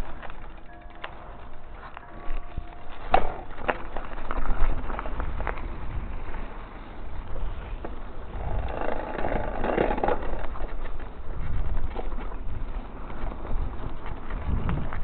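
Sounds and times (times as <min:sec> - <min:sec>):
bike rattling and knocking: 0:00.0 - 0:15.0
bike tyres crunching on gravel: 0:00.0 - 0:15.0
low rumble on microphone: 0:00.0 - 0:15.0.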